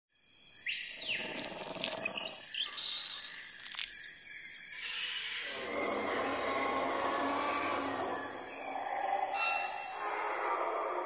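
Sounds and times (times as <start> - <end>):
bird calls and chirps: 0.2 - 11.0.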